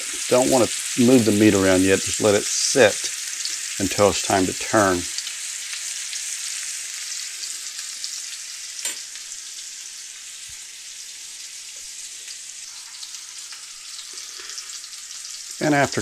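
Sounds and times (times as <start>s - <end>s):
meat and onions sizzling in skillet: 0.0s - 16.0s.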